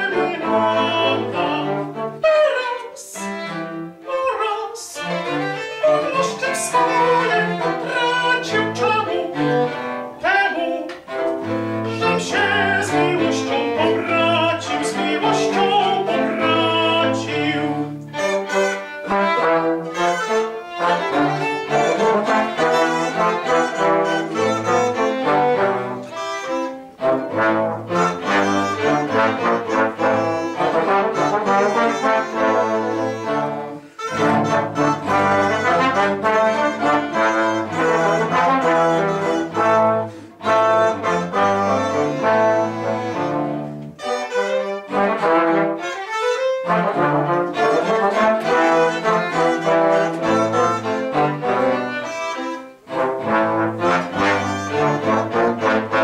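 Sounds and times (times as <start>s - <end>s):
bowed strings: 0.0s - 56.0s
trombones playing tune: 0.0s - 56.0s.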